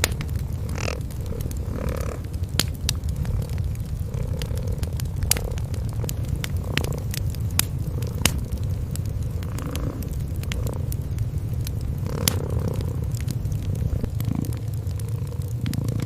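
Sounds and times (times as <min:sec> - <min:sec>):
cats purring: 0:00.0 - 0:16.0
wood fire crackling and popping: 0:00.0 - 0:16.0.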